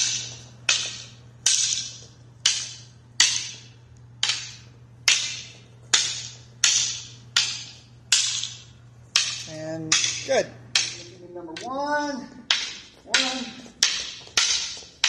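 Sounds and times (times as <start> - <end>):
training sticks clacking together: 0.0 - 11.8, 12.4 - 15.0.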